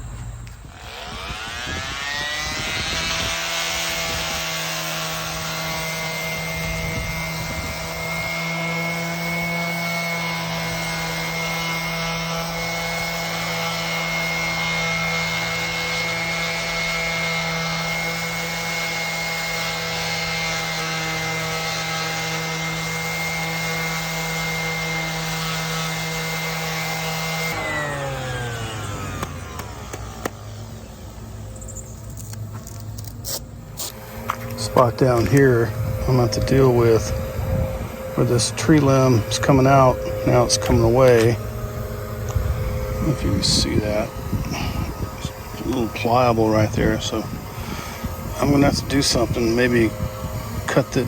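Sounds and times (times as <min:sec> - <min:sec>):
orbital sander on wood: 0:00.0 - 0:51.0.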